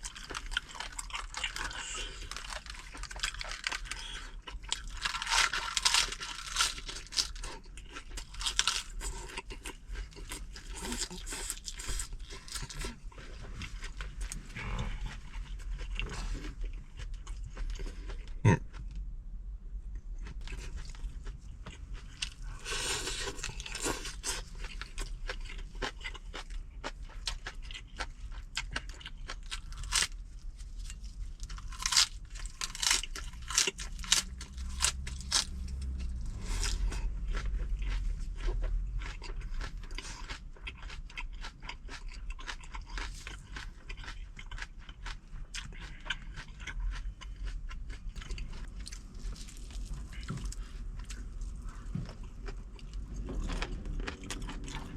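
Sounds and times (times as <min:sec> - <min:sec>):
person chewing and crunching food: 0:00.0 - 0:19.0, 0:19.9 - 0:54.9
low steady rumble: 0:00.0 - 0:54.9.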